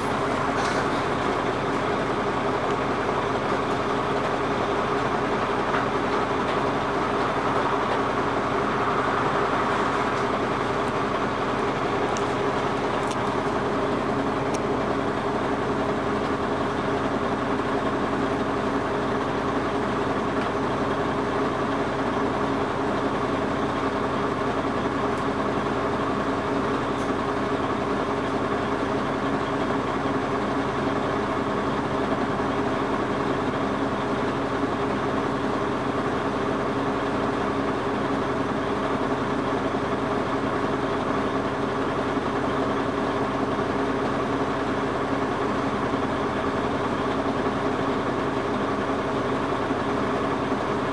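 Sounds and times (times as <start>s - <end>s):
bus diesel engine idling: 0.0s - 50.9s.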